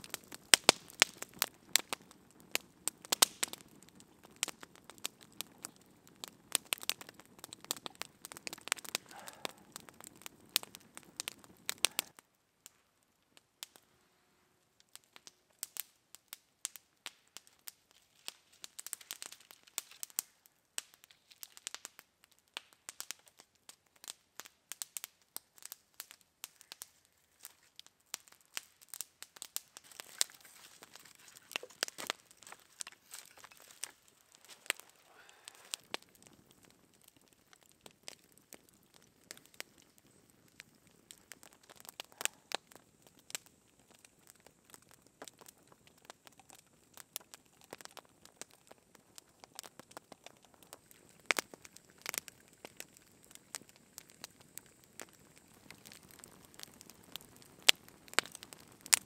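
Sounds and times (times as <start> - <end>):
campfire crackling and popping: 0.0 - 59.0
low fire hiss: 0.0 - 59.0.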